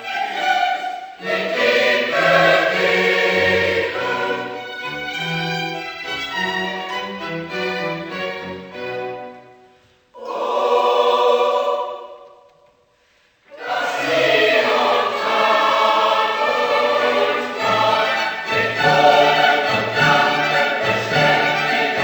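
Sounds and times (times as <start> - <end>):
choir and orchestra: 0.0 - 12.8, 13.4 - 22.0.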